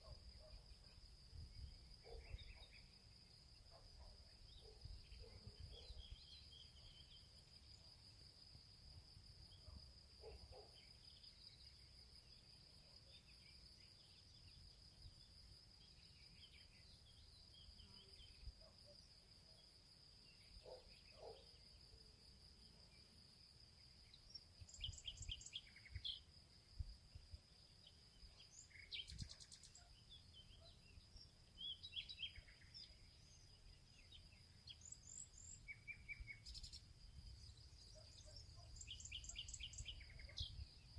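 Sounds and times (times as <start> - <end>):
insect trill: 0.0 - 40.9
songbird chirps: 0.0 - 40.9.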